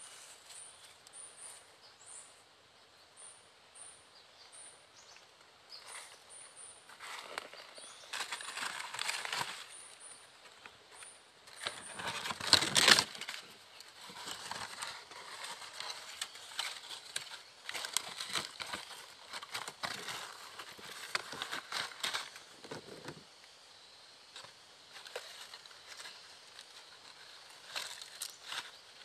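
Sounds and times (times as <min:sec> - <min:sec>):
leaves rustling and crackling: 0:00.0 - 0:01.6, 0:05.0 - 0:23.6, 0:24.3 - 0:29.0.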